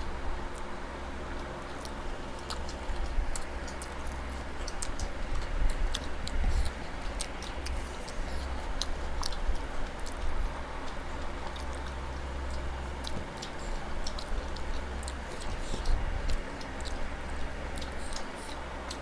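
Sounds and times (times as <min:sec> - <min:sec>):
chewing with wet mouth clicks: 0:00.5 - 0:19.0.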